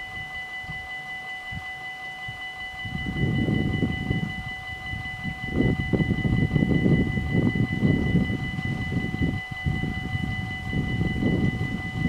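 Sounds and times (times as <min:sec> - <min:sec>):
level crossing warning bells ringing: 0:00.0 - 0:12.0.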